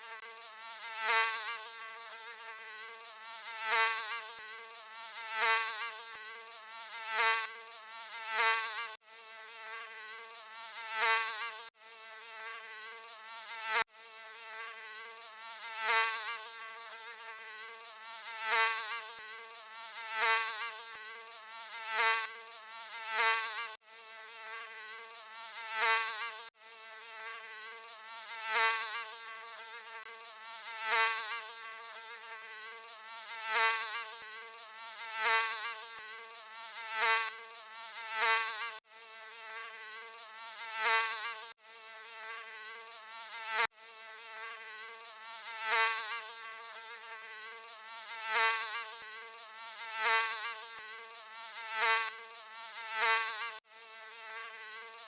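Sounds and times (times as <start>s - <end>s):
mosquito buzzing: 0.0s - 55.0s.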